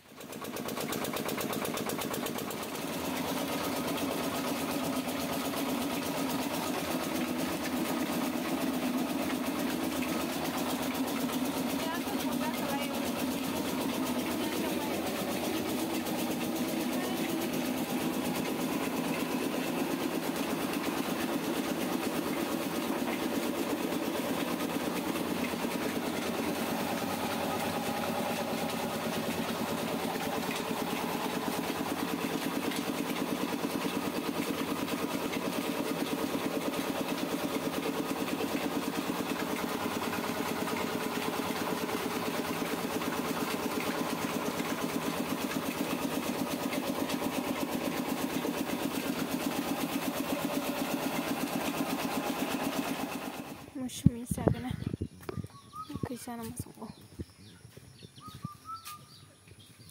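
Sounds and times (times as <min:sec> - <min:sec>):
rice huller grinding: 0:00.0 - 0:54.1
small engine running: 0:00.0 - 0:59.9.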